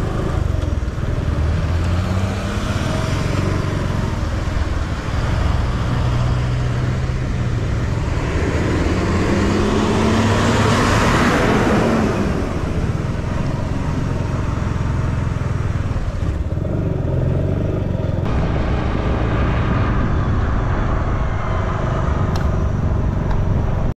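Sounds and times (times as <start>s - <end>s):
engine running at low revs: 0.0s - 23.9s
vehicle passing by: 1.2s - 23.9s.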